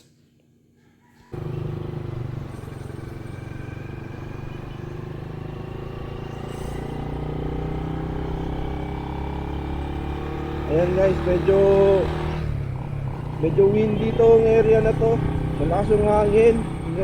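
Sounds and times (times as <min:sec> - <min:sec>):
motorcycle engine running: 0:01.3 - 0:17.0.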